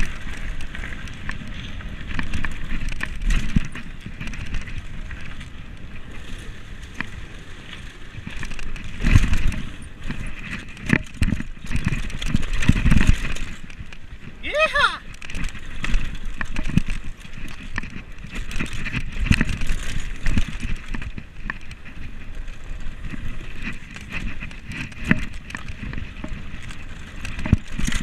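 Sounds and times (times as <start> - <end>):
bike tyres rumbling on trail: 0.0 - 28.0.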